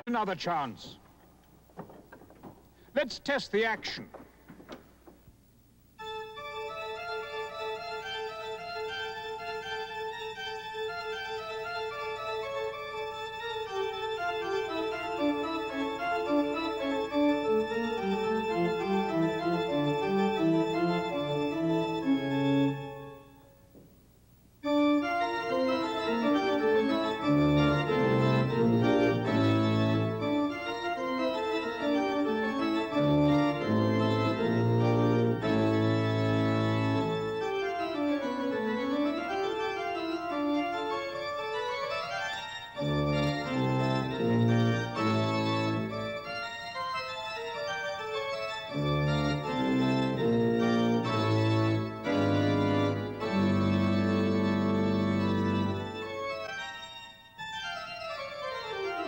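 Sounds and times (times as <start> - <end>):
pipe organ playing: 6.0 - 23.6, 24.6 - 59.0.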